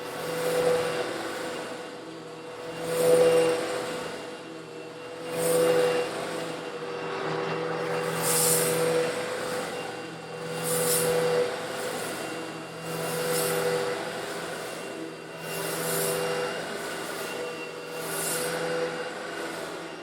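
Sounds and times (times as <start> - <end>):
vacuum cleaner motor hum: 0.0 - 20.0.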